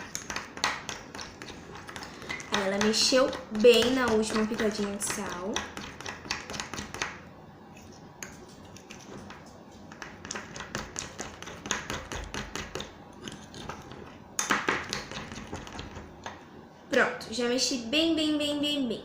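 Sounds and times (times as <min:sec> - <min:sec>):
utensil stirring stiff paste: 0:00.0 - 0:16.3.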